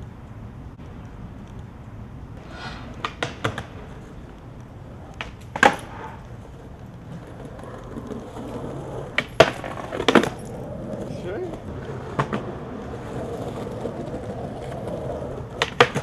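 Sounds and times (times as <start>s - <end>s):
skateboard wheels rolling on pavement: 0.0s - 16.0s
skateboard clacks: 2.5s - 16.0s.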